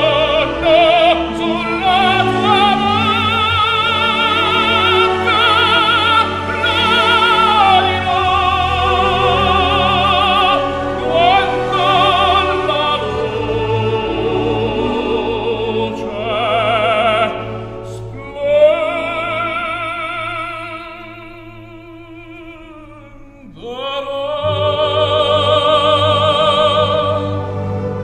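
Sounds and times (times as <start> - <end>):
operatic singing with orchestra: 0.0 - 28.0.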